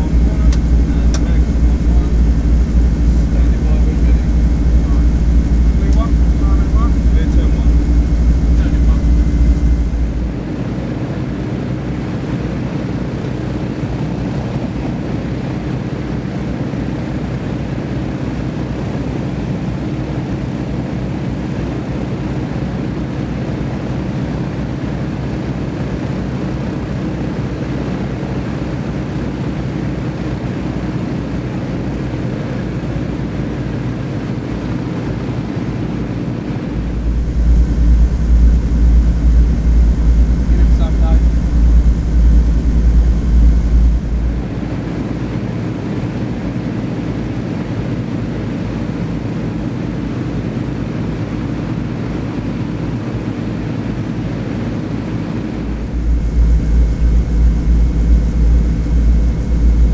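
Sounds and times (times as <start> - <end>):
aircraft piston engines droning: 0.0 - 59.9
deep engine rumble inside cockpit: 0.0 - 59.9.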